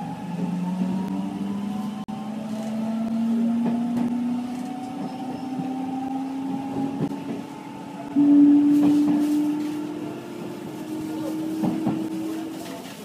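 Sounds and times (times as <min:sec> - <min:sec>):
train traction motors whining: 0:00.0 - 0:13.0.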